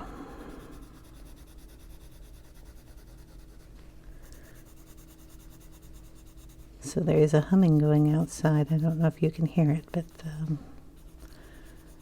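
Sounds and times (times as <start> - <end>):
pencil shading on paper: 0.0 - 10.4, 11.0 - 12.0.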